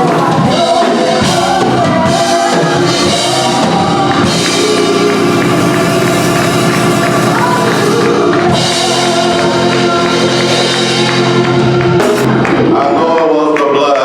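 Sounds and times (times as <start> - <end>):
drums and instruments: 0.0 - 13.3
gospel singing: 0.0 - 14.0.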